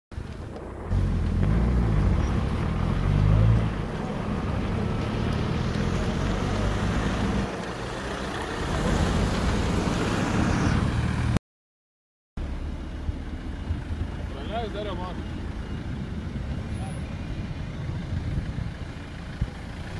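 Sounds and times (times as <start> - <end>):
tyre and road noise: 0.1 - 11.4, 12.4 - 19.9
vehicle engines running: 0.2 - 11.4, 12.4 - 19.9.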